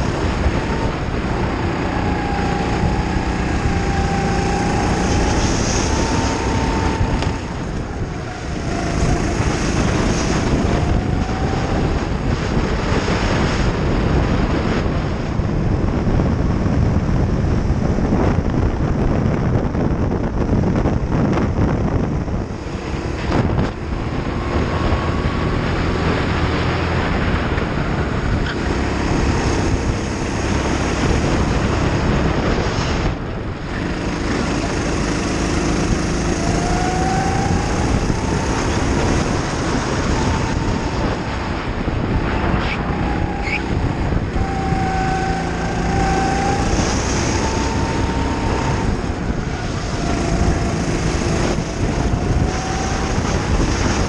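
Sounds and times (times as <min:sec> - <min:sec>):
kart engine running hard: 0:00.0 - 0:54.0
wind buffeting microphone: 0:00.0 - 0:54.0.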